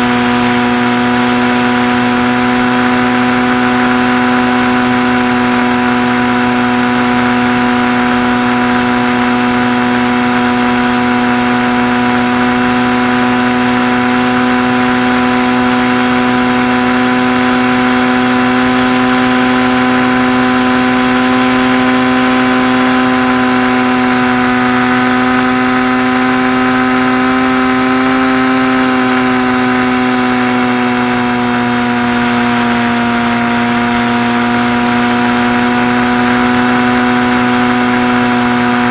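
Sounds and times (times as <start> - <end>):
model plane motor humming: 0.0 - 38.9.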